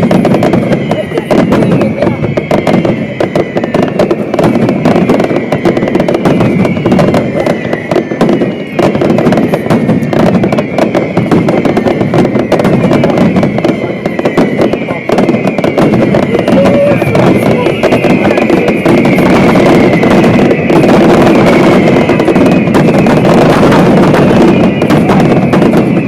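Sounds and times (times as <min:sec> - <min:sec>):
fireworks bangs and crackling: 0:00.0 - 0:26.0
fireworks whistling: 0:00.0 - 0:26.0.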